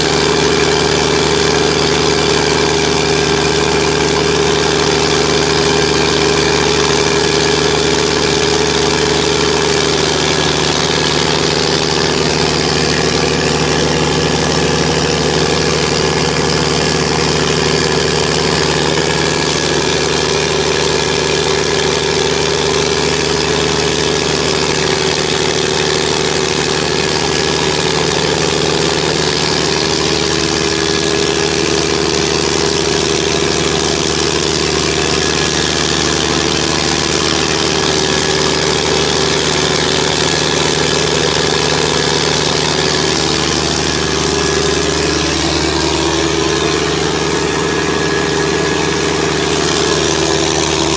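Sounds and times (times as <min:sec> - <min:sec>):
diesel generator running: 0:00.0 - 0:50.9.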